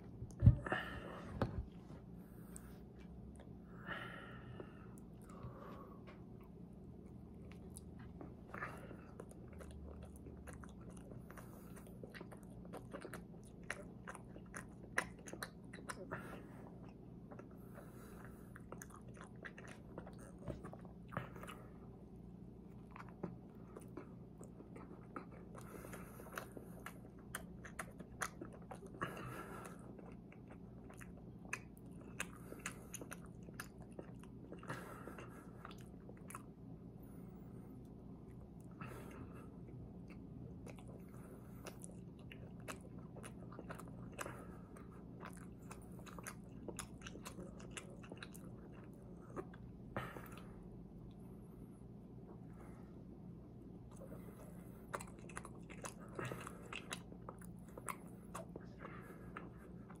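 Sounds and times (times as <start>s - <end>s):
person chewing: 4.6s - 51.2s, 53.7s - 60.0s.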